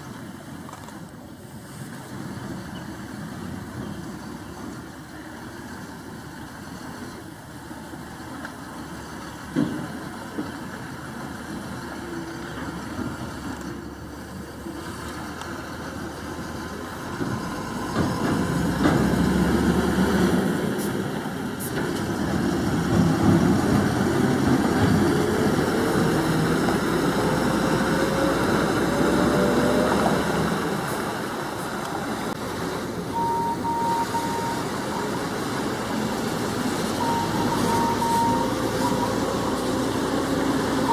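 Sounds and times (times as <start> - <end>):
diesel truck engine running: 2.0 - 40.9.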